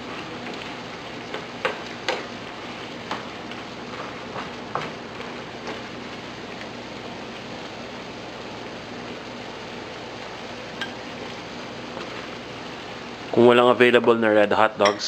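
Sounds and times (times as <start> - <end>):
stew sizzling in a pan: 0.0 - 15.0.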